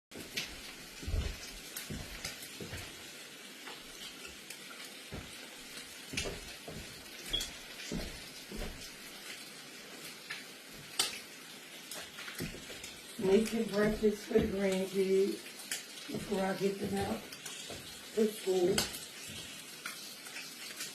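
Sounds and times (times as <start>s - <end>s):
food sizzling in a pan: 0.1s - 20.9s.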